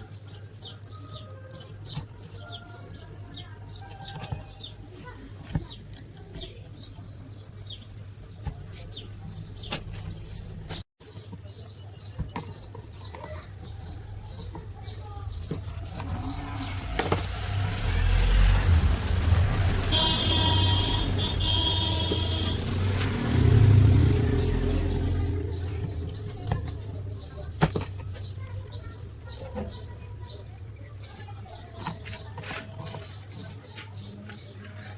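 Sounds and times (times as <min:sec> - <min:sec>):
small metal parts clinking: 0:00.0 - 0:10.1, 0:12.0 - 0:17.6, 0:19.9 - 0:33.6.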